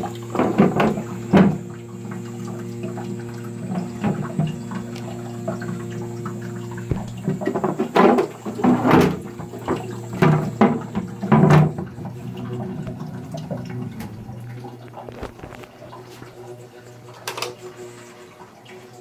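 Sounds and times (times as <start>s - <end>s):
toilet fill valve droning: 0.0s - 19.0s.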